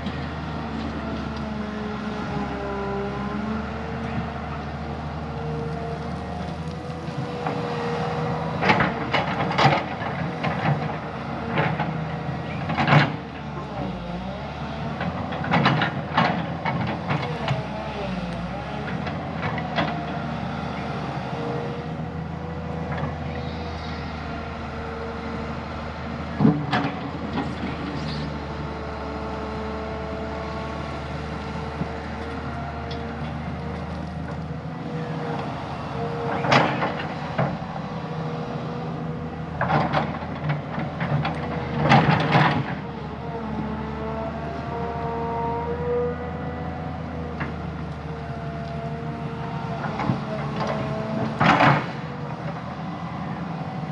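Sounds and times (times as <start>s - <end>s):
diesel machine running: 0.0s - 53.9s.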